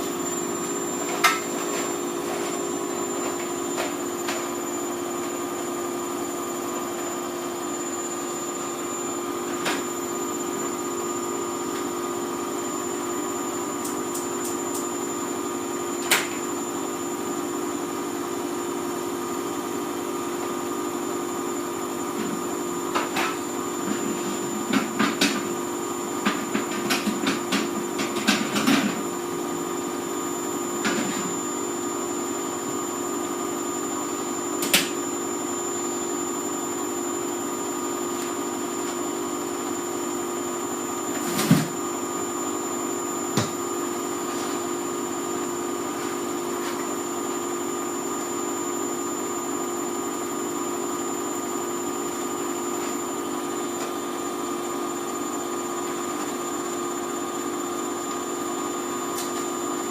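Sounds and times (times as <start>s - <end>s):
washing machine motor humming: 0.0s - 59.9s.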